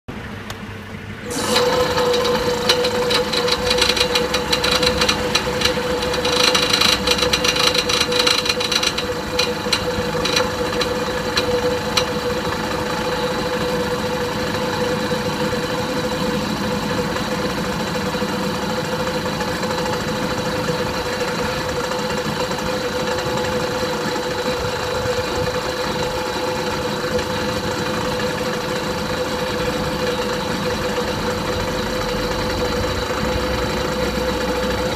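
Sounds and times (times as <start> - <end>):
air compressor running: 1.0 - 34.9.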